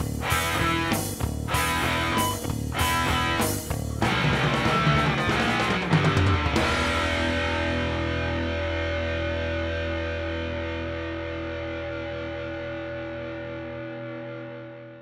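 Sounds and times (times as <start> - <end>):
distorted electric guitar chord: 0.0 - 15.0.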